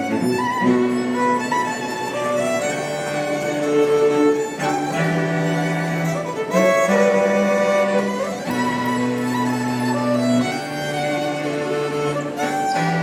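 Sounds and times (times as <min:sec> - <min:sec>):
violin-led string music: 0:00.0 - 0:13.0.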